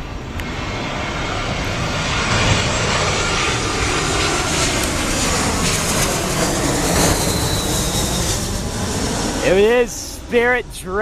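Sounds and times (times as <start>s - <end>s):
jet engine rush: 0.0s - 11.0s.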